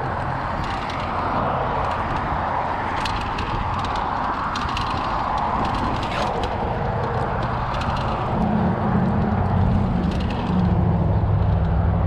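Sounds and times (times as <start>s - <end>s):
bike tyres rolling on dirt trail: 0.0s - 12.0s.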